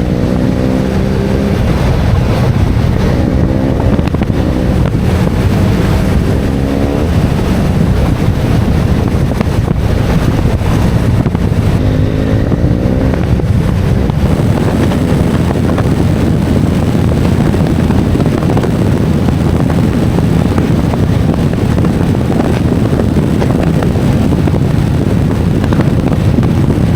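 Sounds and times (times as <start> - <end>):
motorcycle engine revving: 0.0 - 26.9
wind rush on microphone: 0.0 - 26.9.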